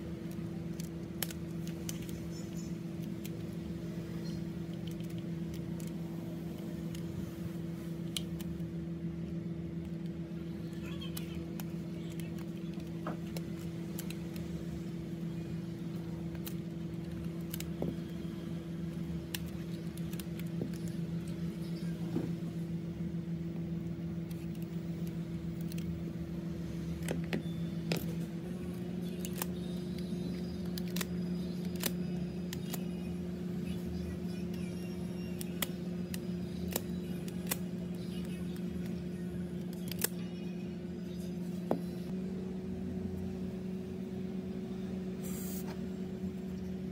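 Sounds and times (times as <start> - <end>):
low electric hum: 0.0 - 46.9.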